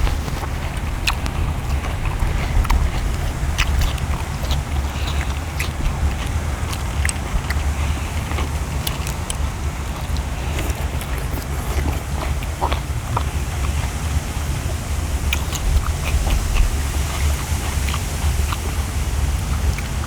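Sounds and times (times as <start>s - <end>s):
people chewing and eating: 0.0s - 20.0s
steady low rumble: 0.0s - 20.0s.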